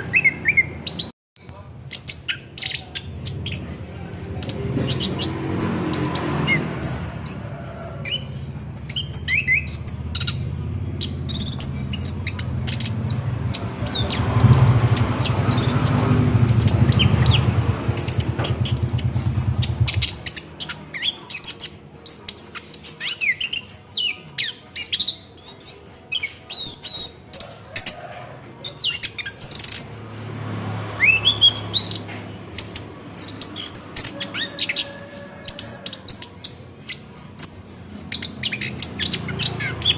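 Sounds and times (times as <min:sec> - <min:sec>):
thrush singing: 0:02.0 - 0:39.9.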